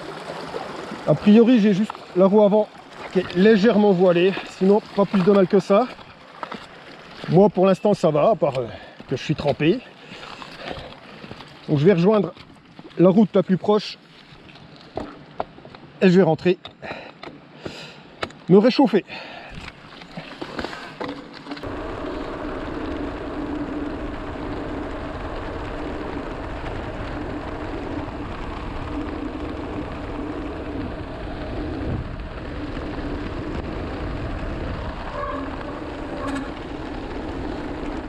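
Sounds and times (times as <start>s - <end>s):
wind rumbling on microphone: 0.0s - 13.1s, 19.5s - 38.0s
bike rolling hum: 0.0s - 13.4s, 19.2s - 38.0s.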